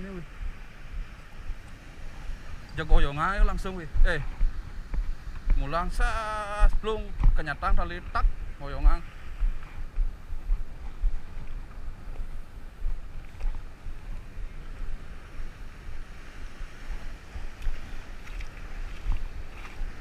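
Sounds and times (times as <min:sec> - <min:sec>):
rough sea surf: 0:00.0 - 0:20.0
wind buffeting microphone: 0:00.0 - 0:20.0.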